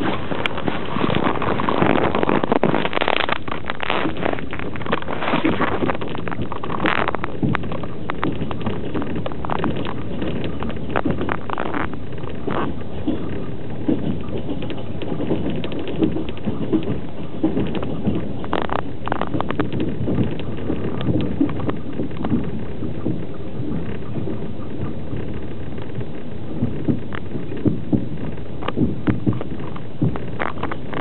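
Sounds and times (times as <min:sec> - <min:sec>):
carriage clacks and rattles: 0:00.0 - 0:26.1
train wheels on rails: 0:00.0 - 0:31.0.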